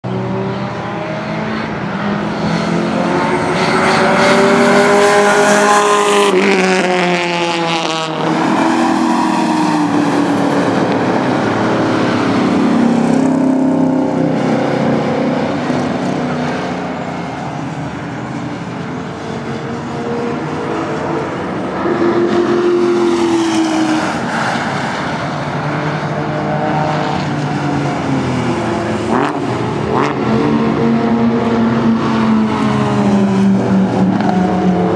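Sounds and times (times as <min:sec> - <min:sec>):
race cars passing: 0:00.0 - 0:34.9.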